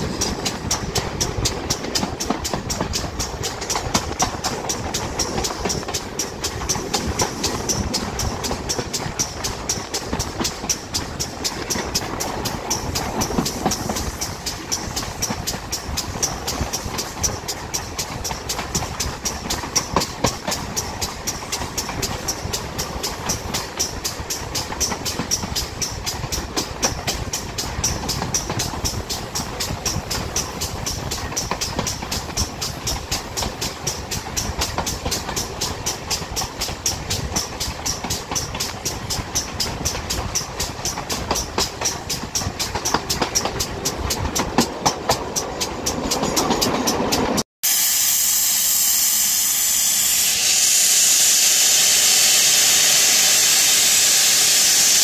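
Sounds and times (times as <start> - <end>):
train wheels clattering on rails: 0.0 - 47.4.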